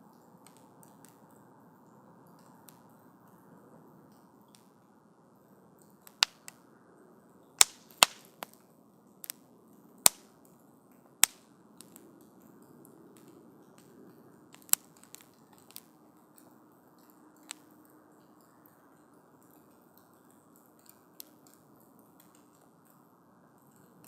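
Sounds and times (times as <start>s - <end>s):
low hiss of burning: 0.0s - 24.0s
campfire crackling and popping: 0.2s - 1.4s, 2.3s - 3.4s, 5.8s - 6.7s, 7.4s - 24.0s.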